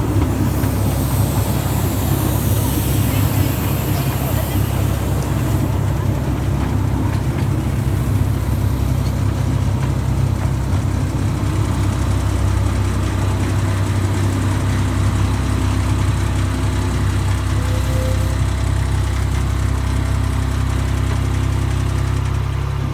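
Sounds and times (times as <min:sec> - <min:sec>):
locomotive engine idling: 0:00.0 - 0:22.9.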